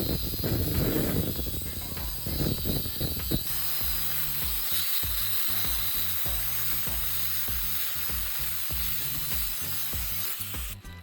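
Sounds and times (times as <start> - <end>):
background music with steady beat: 0.0 - 11.0
grinder cutting metal: 0.0 - 11.0.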